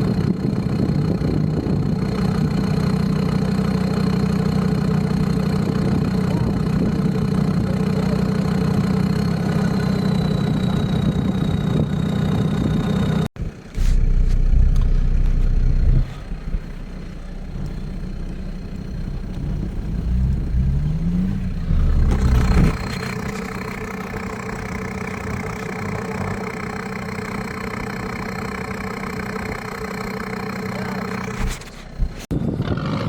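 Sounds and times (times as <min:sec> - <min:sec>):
off-road engine revving: 0:00.0 - 0:33.0.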